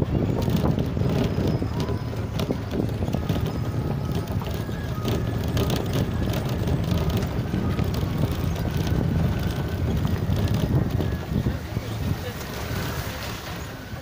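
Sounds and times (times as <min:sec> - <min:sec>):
clicks and rattles from bumps: 0:00.0 - 0:11.4
vehicle engine and road rumble: 0:00.0 - 0:14.0.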